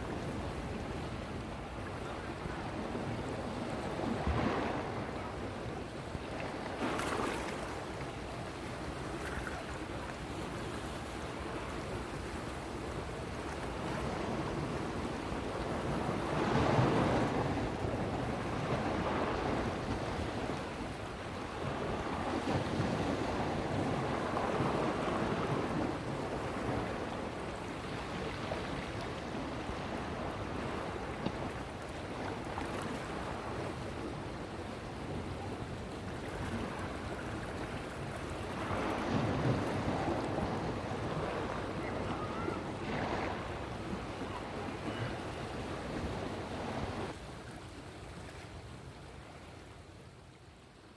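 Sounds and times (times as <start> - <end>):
wind noise on microphone: 0.0 - 7.9, 8.5 - 47.3
waves washing: 0.0 - 49.2.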